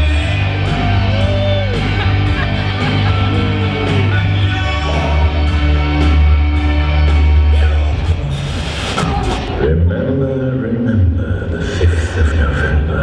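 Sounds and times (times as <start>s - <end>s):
loud pop music over pa: 0.0s - 13.0s.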